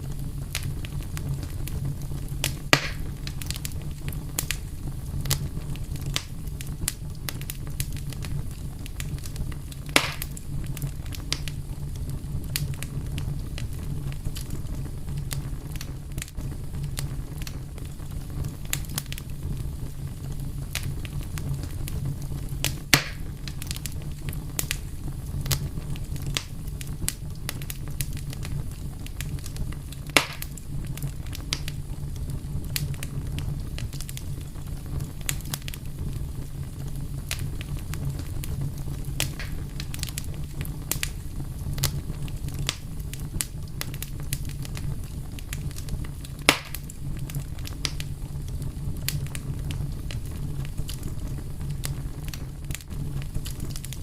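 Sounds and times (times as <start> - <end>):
fire crackling: 0.0 - 54.0
fire popping: 0.0 - 54.0.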